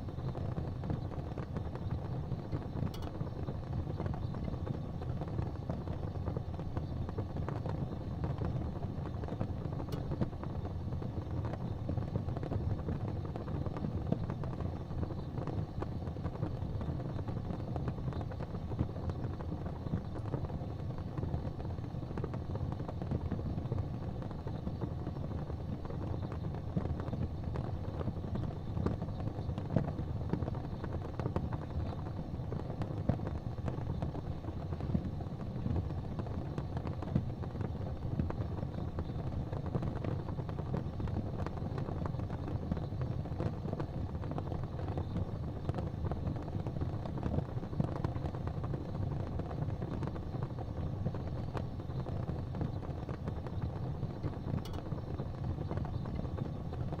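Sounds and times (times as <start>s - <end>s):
faint fire crackles: 0.0s - 57.0s
low rumble of fire: 0.0s - 57.0s.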